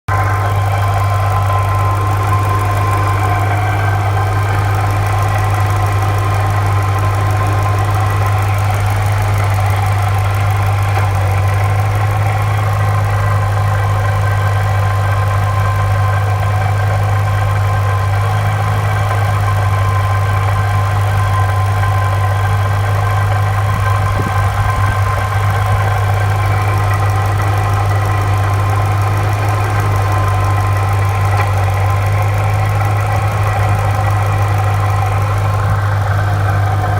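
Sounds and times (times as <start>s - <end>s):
car engine idling: 0.1s - 36.9s
supercharger rattling: 0.1s - 36.9s.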